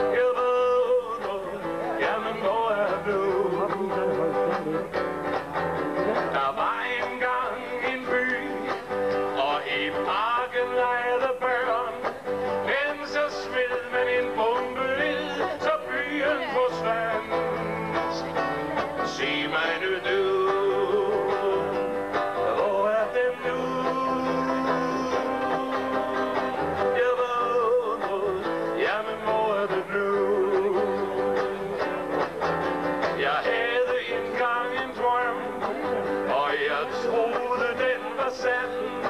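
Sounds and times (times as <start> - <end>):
man singing a slow ballad: 0.0 - 4.6, 6.2 - 18.2, 19.0 - 32.0, 33.2 - 39.0
acoustic guitar: 0.0 - 39.0.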